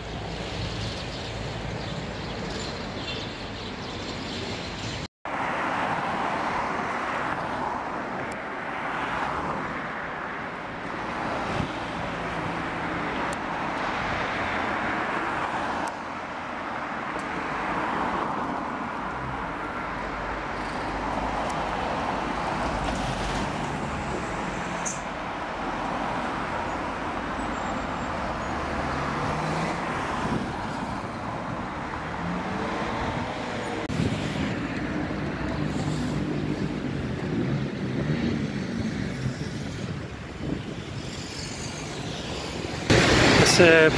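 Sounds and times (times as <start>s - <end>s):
cars passing by: 0.0s - 43.9s.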